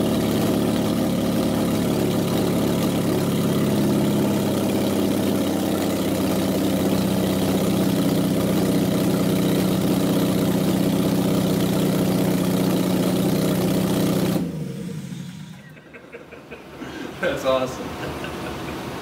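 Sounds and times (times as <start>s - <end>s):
car engine fast idle: 0.0s - 16.0s.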